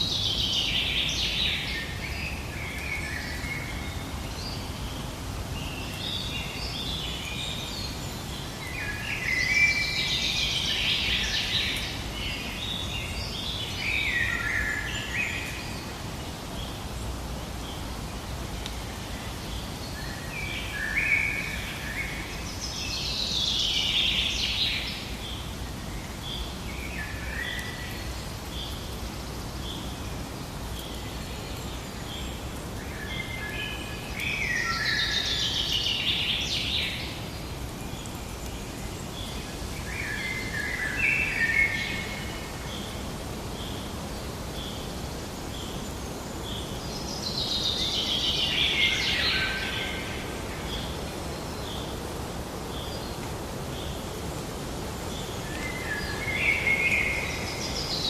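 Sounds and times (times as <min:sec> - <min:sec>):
outdoor ambience hiss: 0:00.0 - 0:58.0
songbirds singing: 0:00.0 - 0:58.0.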